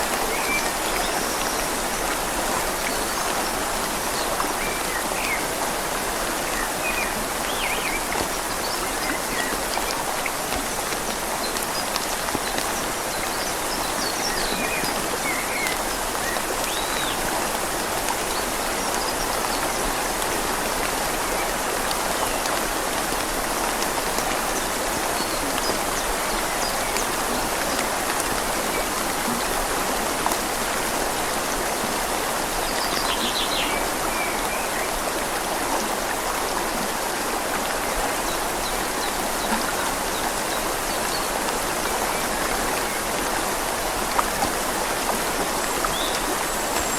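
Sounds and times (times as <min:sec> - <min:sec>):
rain falling on leaves: 0:00.0 - 0:46.9
river flowing: 0:00.0 - 0:46.9.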